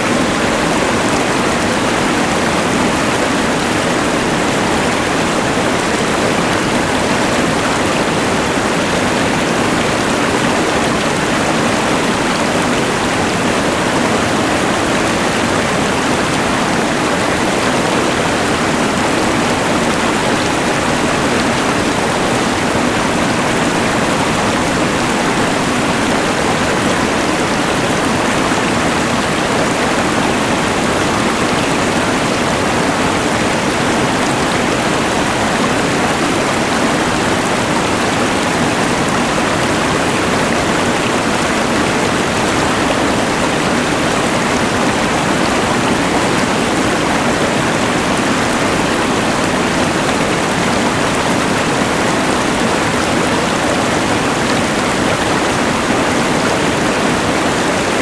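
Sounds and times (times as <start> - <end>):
mountain river rushing: 0.0 - 58.0.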